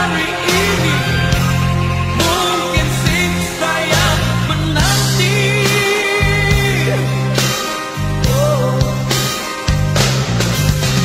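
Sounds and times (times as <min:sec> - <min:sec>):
person singing: 0:00.0 - 0:09.6
rock song with band: 0:00.0 - 0:11.0.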